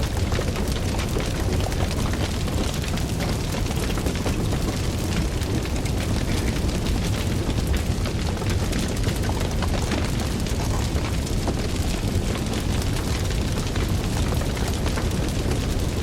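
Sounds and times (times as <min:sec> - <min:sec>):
burning wood crackling: 0:00.0 - 0:16.0
fire rumbling: 0:00.0 - 0:16.0.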